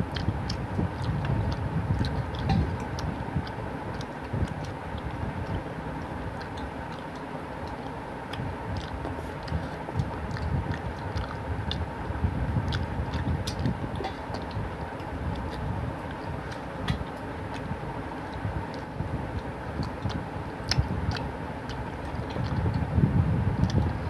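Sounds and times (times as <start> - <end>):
steady low rumble: 0.0 - 24.0
wet chewing with mouth clicks: 0.0 - 24.0.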